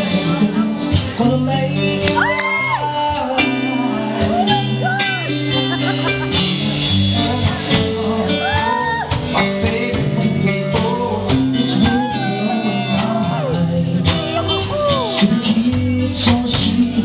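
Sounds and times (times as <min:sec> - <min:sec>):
acoustic guitar: 0:00.0 - 0:17.0
drums: 0:00.0 - 0:17.0
electric bass: 0:00.0 - 0:17.0
man singing: 0:00.0 - 0:17.0.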